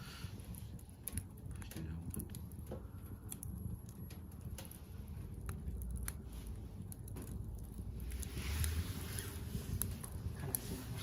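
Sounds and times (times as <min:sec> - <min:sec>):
fire pops and snaps: 0:00.0 - 0:11.0
low steady rumble: 0:00.0 - 0:11.0
wood fire crackling: 0:00.0 - 0:11.0.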